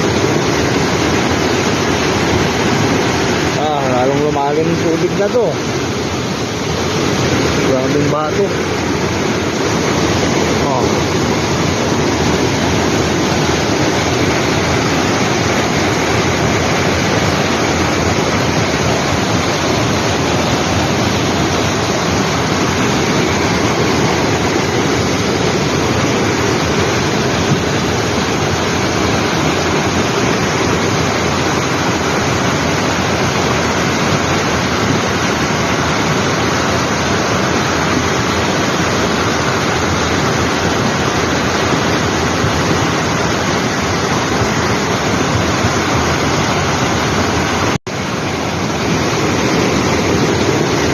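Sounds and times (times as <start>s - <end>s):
floodwater rushing over rocks: 0.0s - 50.9s.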